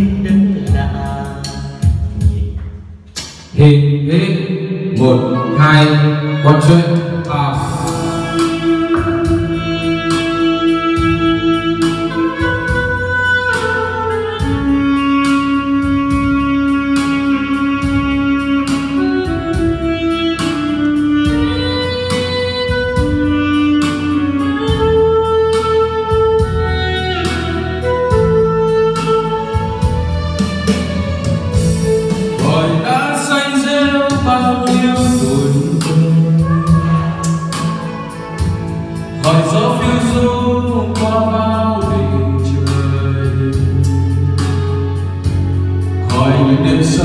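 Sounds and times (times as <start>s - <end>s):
instrumental music with steady beat: 0.0s - 47.0s.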